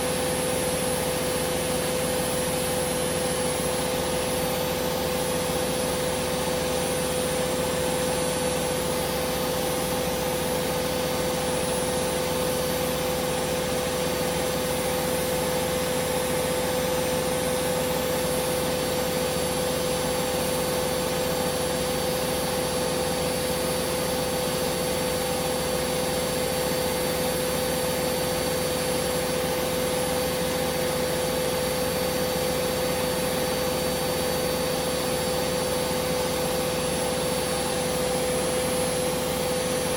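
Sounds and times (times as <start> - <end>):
washing machine spin whine: 0.0 - 39.9.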